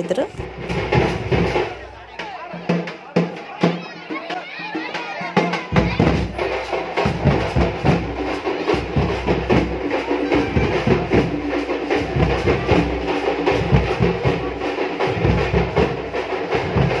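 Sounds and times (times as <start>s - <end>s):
drum band beating large drums: 0.0s - 17.0s.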